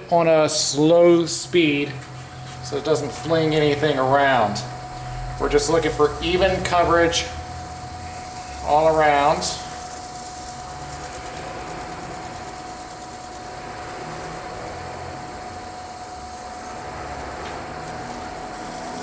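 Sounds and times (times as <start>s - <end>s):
wood lathe motor hum and whine: 0.0s - 19.0s.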